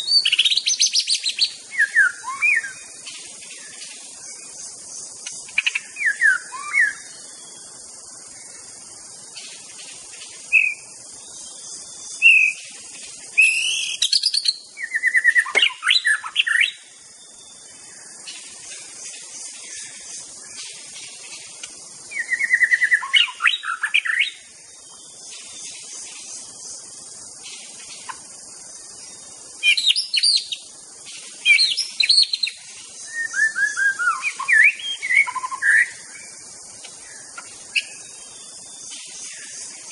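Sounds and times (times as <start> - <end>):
bird singing whistles and trills: 0.0 - 39.9
steady high hiss: 0.0 - 39.9.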